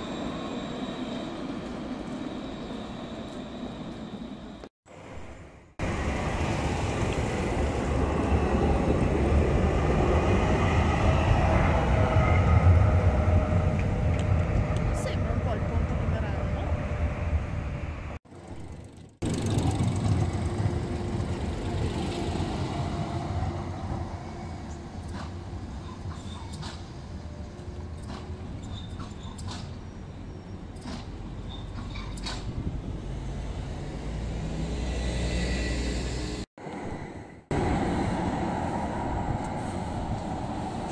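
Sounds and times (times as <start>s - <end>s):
tram wheels rumbling: 0.0s - 40.9s.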